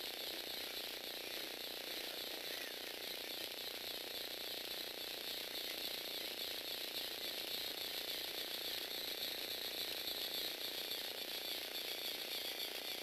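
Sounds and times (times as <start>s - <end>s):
toy motor whirring with gear rattle: 0.0s - 13.0s.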